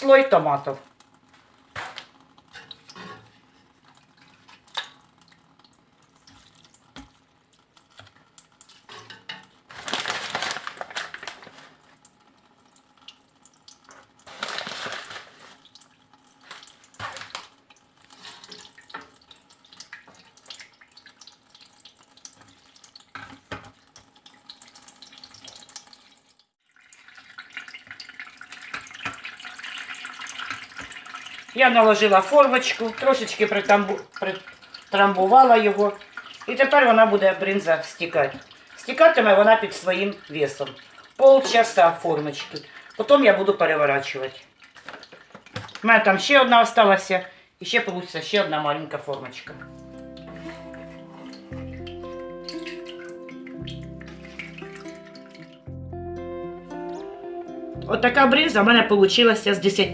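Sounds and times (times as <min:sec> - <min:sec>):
whey splashing and dripping: 0:01.0 - 0:46.0, 0:48.9 - 0:55.7.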